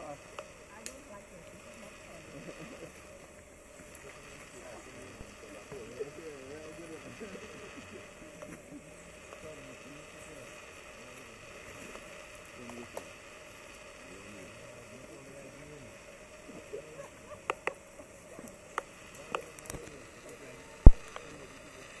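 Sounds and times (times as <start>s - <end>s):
distant voices talking: 0.0s - 22.0s.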